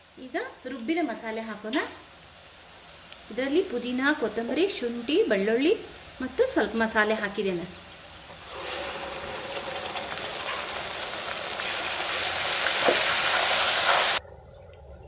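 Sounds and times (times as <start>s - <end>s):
paste sizzling in hot oil: 0.6s - 14.2s.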